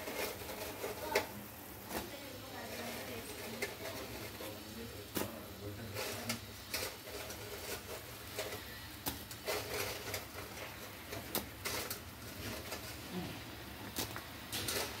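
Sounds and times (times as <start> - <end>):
bread deep-frying with pops: 0.0 - 15.0.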